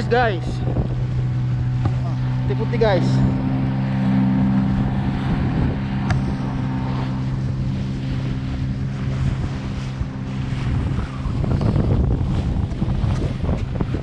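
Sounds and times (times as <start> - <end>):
boat motor running: 0.0 - 14.0
wind buffeting microphone: 0.0 - 14.0.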